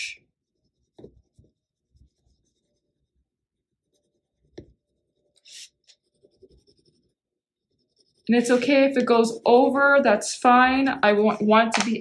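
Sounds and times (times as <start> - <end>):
crayon scratching on paper: 0.0 - 11.5.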